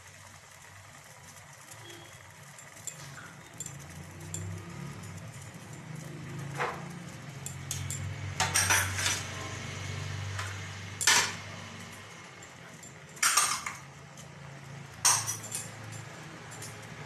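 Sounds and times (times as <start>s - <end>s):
steady low hum: 0.0s - 17.0s
steel utensils clinking: 1.6s - 17.0s.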